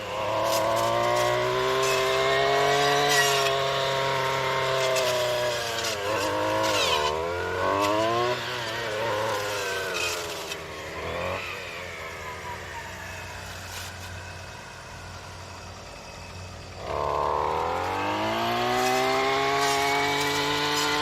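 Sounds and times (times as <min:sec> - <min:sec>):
weed whacker engine at high revs: 0:00.0 - 0:21.0.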